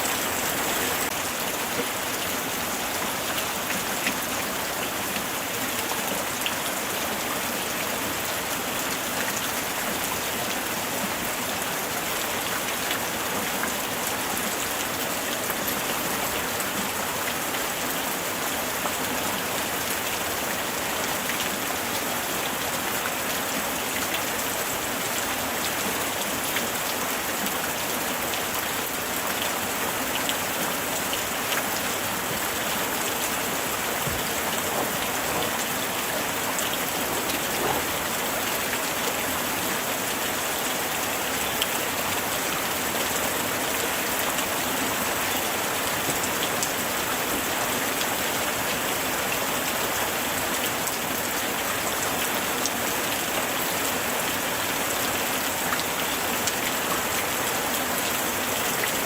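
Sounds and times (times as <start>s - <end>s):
light rain pattering: 0.0s - 59.0s.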